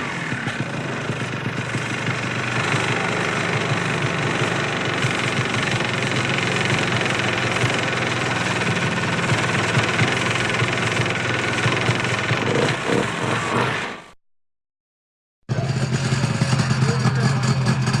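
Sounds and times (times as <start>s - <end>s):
atv engine running steadily: 0.0s - 13.9s, 15.5s - 18.0s.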